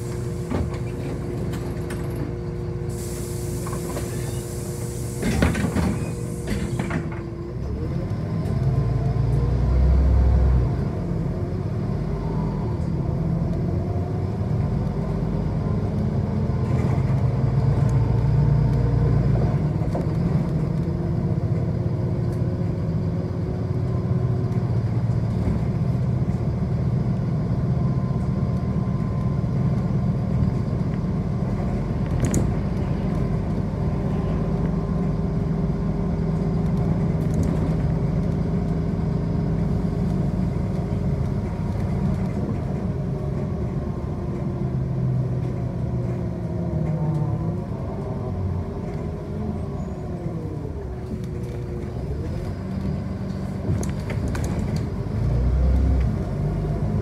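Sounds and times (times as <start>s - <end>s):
bus engine and road rumble: 0.0s - 57.0s
bus whine: 0.0s - 57.0s.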